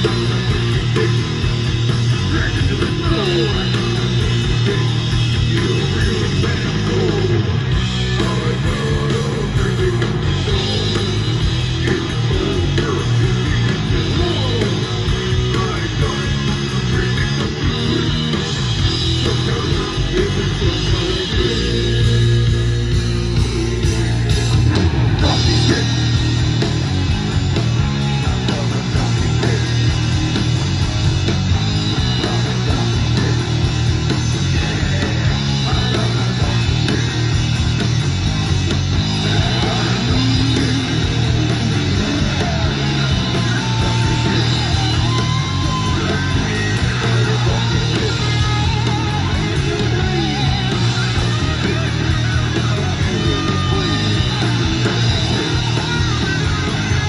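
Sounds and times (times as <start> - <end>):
heavy rock song with electric guitar: 0.0 - 57.0.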